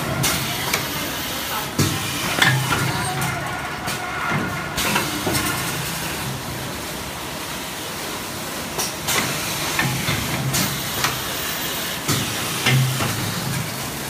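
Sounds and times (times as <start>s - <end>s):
packaging machine hiss and hum: 0.0s - 14.0s.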